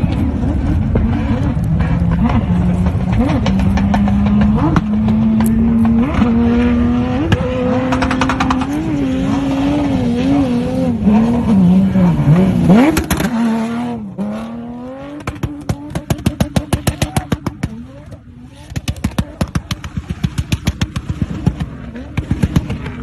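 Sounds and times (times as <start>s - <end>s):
car engine revving hard: 0.4s - 19.6s.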